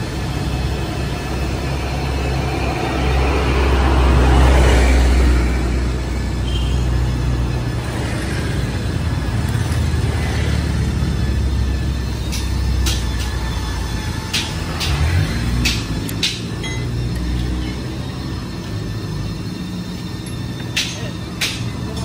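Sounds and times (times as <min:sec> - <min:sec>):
large vehicle engine drone: 0:00.0 - 0:22.0
road traffic going by: 0:00.0 - 0:22.0.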